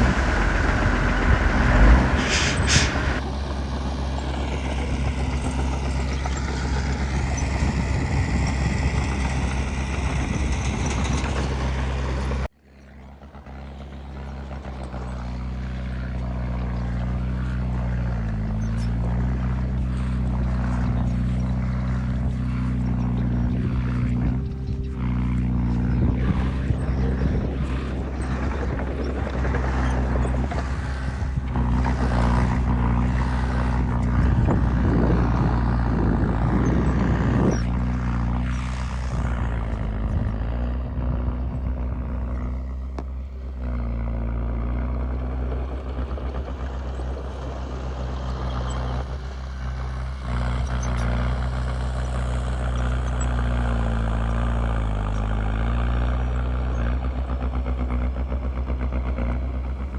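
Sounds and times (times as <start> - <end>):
heavy diesel engine running: 0.0 - 59.9
machinery rattling and churning: 0.0 - 59.9.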